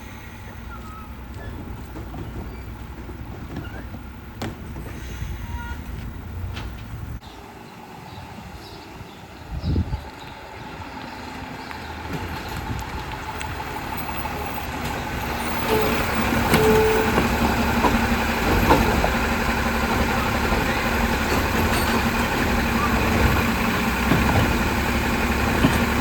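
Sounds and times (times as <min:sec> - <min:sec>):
garbage truck engine running: 0:00.0 - 0:07.2, 0:09.6 - 0:26.0.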